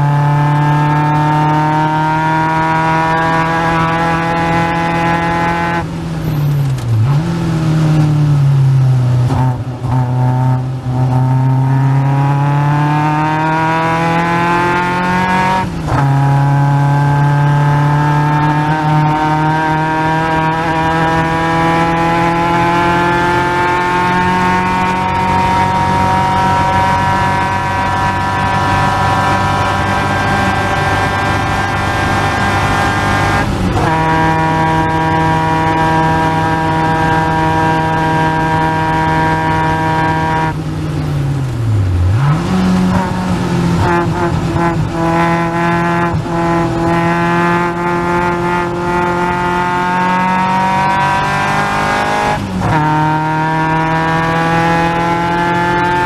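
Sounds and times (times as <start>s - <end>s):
car engine at full throttle: 0.0s - 56.0s.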